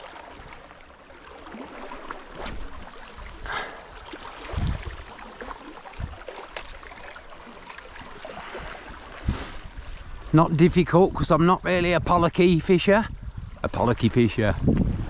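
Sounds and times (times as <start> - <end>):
sea water washing at shore: 0.0 - 15.0
wind: 0.0 - 15.0.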